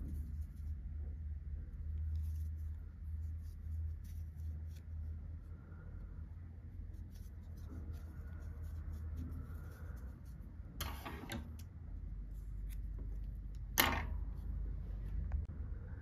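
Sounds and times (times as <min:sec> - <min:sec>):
crochet hook rustling yarn: 0:00.0 - 0:15.5
low steady hum: 0:00.0 - 0:16.0.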